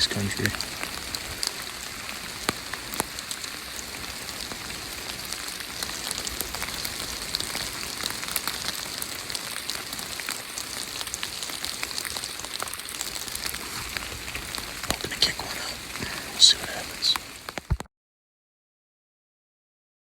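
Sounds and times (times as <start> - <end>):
raindrops tapping: 0.0 - 17.9
steady rain: 0.0 - 17.9.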